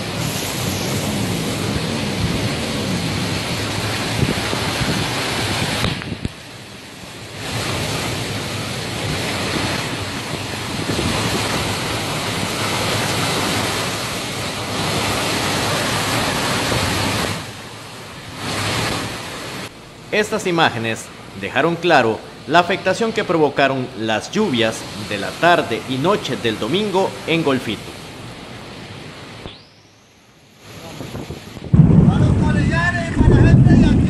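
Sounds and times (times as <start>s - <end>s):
heavy rain and floodwater rushing: 0.0s - 29.5s, 30.6s - 34.0s.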